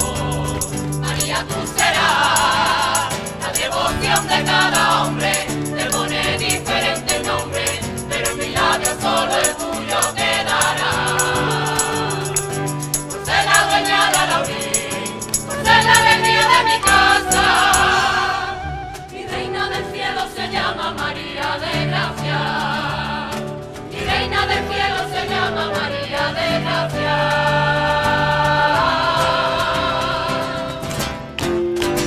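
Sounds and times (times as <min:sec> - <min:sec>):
choir singing in chorus: 0:00.0 - 0:31.2
acoustic guitar accompaniment: 0:00.0 - 0:32.0.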